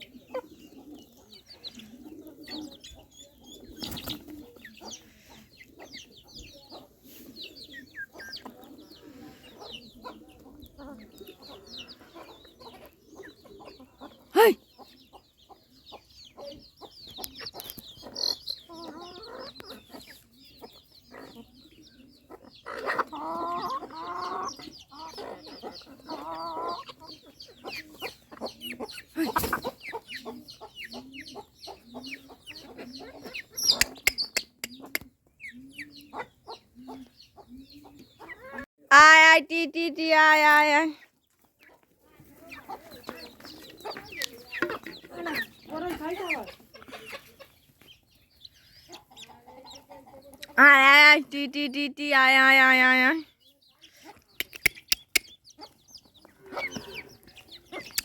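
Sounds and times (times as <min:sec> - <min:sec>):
chickens clucking: 0:00.0 - 0:39.2, 0:40.0 - 0:58.0
chicks peeping: 0:00.0 - 0:58.0.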